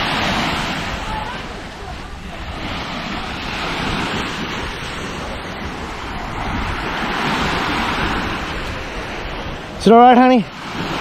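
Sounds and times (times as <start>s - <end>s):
waves washing onto sandy beach: 0.0s - 11.0s
wind buffeting microphone: 0.0s - 11.0s.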